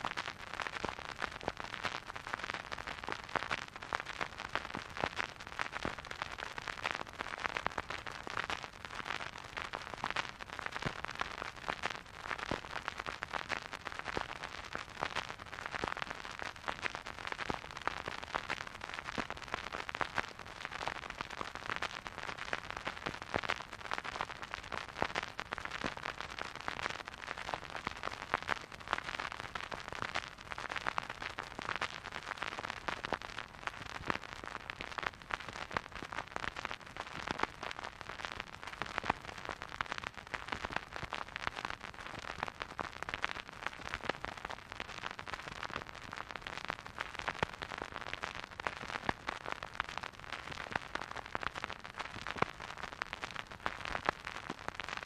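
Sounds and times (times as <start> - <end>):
vinyl record crackle and hiss: 0.0 - 55.0.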